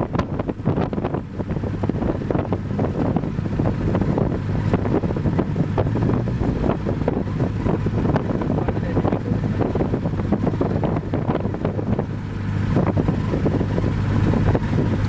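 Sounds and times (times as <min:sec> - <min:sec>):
airplane engine drone: 0:00.0 - 0:15.0
wind buffeting microphone: 0:00.0 - 0:15.0.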